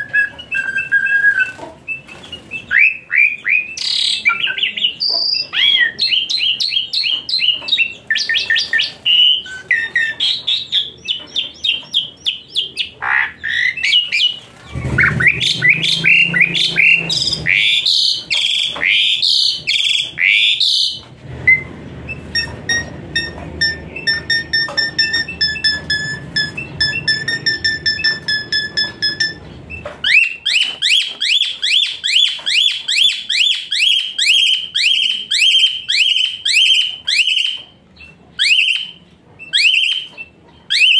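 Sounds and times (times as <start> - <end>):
starling singing whistles and chirps: 0.0 - 37.3.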